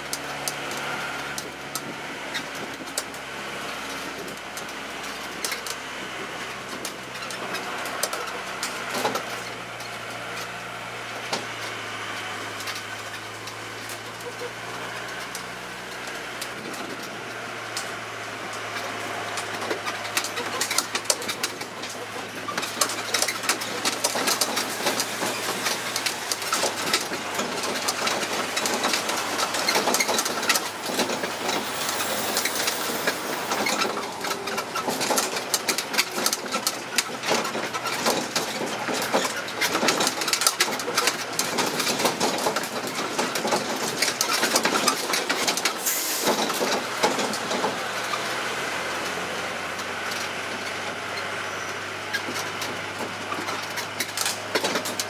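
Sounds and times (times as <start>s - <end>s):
carriages rattling and clattering: 0.0s - 55.0s
low engine hum: 0.0s - 55.0s
road and traffic noise: 0.0s - 55.0s.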